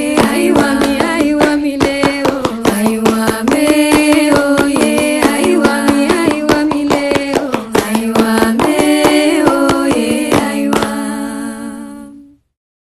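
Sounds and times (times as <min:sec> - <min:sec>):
hand claps: 0:00.0 - 0:11.3.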